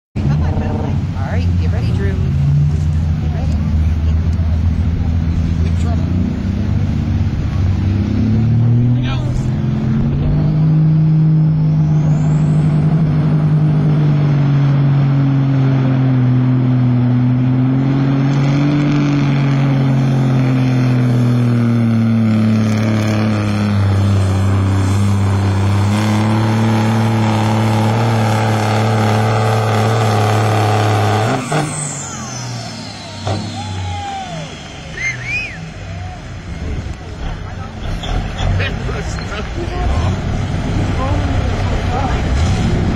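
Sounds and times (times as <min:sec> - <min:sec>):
diesel engine at full throttle: 0:00.1 - 0:42.9.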